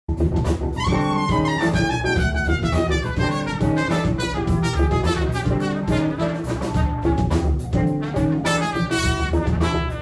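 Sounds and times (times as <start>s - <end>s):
drum kit: 0.1s - 10.0s
trumpet playing jazz line: 0.5s - 10.0s.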